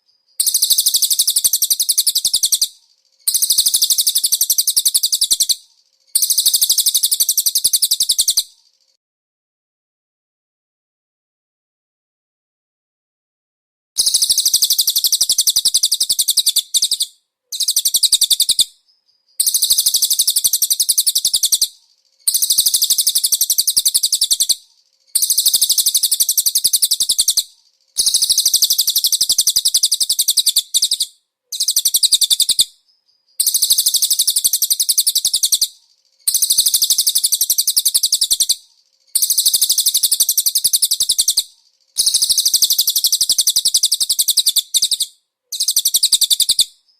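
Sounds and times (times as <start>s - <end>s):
bird song high-pitched trills: 0.0s - 9.0s, 14.0s - 46.9s.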